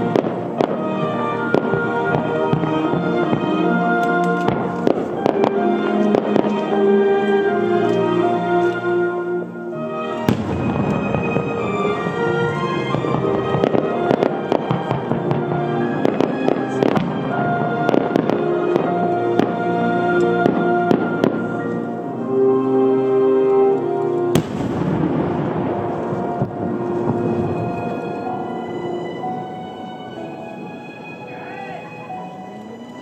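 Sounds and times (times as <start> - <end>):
fireworks bursts banging: 0.0 - 8.8, 10.0 - 22.0, 23.6 - 29.4
music playing: 0.0 - 33.0.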